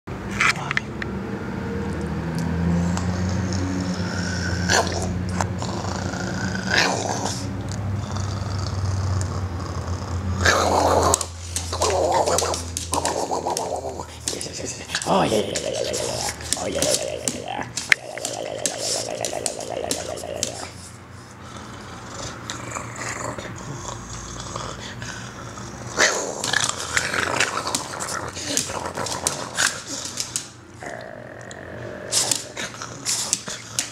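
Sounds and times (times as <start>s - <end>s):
dog growling in play: 2.4s - 33.9s.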